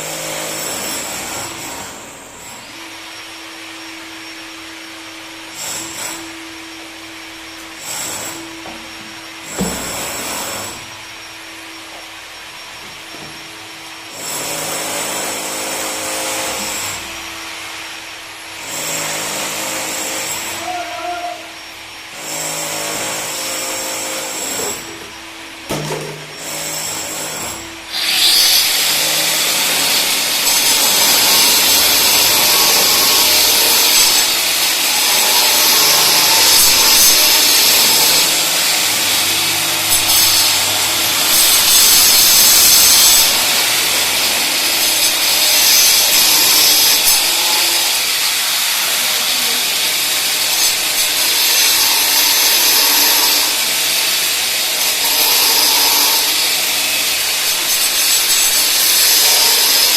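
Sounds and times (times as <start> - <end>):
power tool whining: 0.0 - 59.9.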